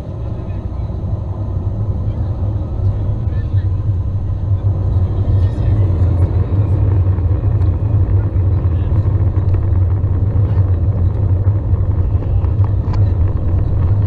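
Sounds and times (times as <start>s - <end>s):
jet engines humming in cabin: 0.0s - 14.0s
taxiing rumble: 0.0s - 14.0s.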